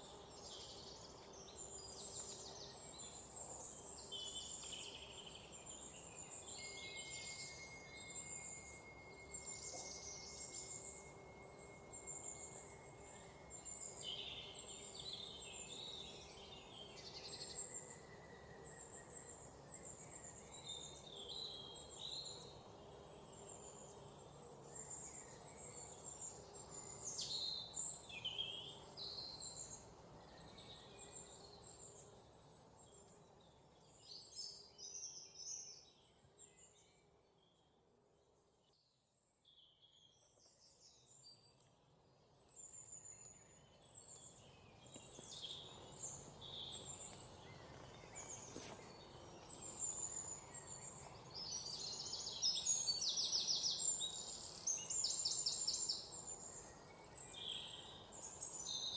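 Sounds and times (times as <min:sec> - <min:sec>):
songbirds chirping and calling: 0:00.0 - 0:37.7, 0:38.7 - 0:58.9
faint outdoor background: 0:00.0 - 0:58.9.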